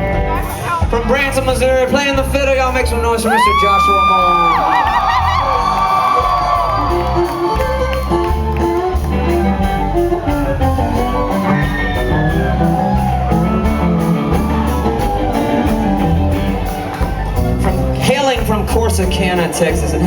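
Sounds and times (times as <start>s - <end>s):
steady bass pattern: 0.0s - 20.0s
lead line of quick short notes: 2.7s - 20.0s.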